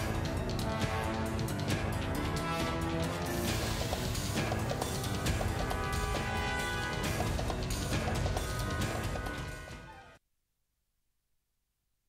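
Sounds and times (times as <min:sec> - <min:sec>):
theme music with steady beat: 0:00.0 - 0:10.2.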